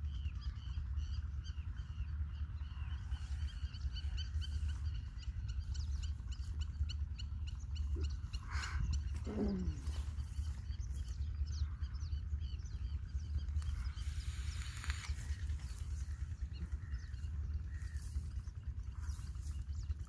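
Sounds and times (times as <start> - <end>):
low rumble: 0.0 - 20.0
small birds chirping: 0.0 - 20.0.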